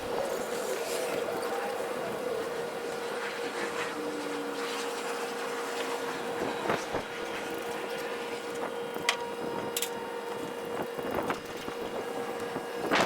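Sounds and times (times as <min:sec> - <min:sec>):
vehicle engine whining: 0:00.0 - 0:13.0.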